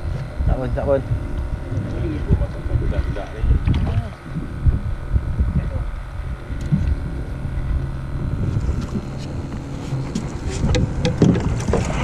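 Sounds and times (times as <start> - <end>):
boat engine running: 0.0 - 12.0
wind buffeting microphone: 0.0 - 12.0.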